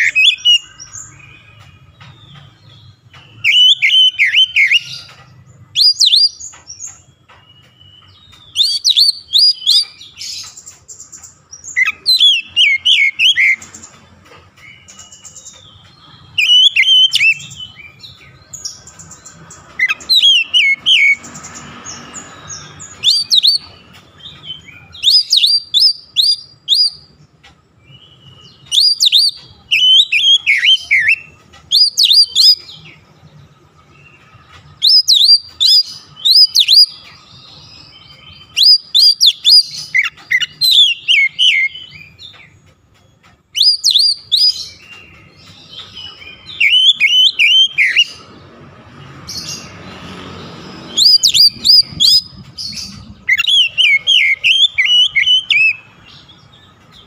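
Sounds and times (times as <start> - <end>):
bird singing whistled notes: 0.0 - 14.0, 14.6 - 48.4, 49.1 - 57.0.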